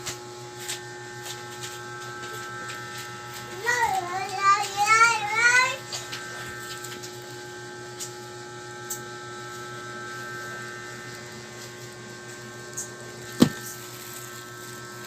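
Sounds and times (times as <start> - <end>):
electrical hum with tones: 0.0 - 15.0.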